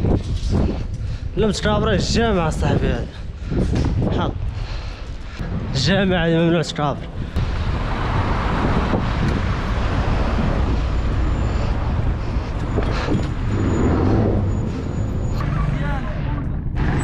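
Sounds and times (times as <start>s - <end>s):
road traffic: 0.0s - 17.0s
wind rumble on microphone: 0.0s - 17.0s.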